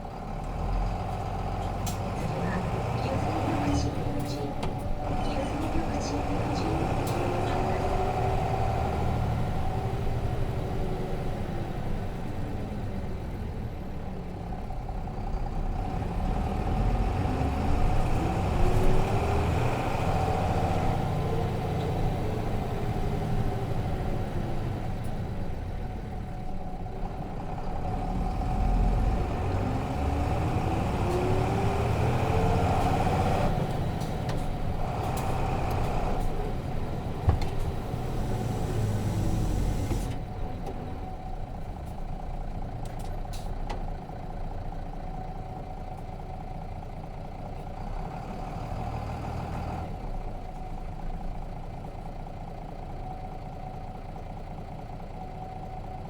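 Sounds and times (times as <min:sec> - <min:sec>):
bus diesel engine running: 0:00.0 - 0:56.0
low road rumble: 0:00.0 - 0:56.0.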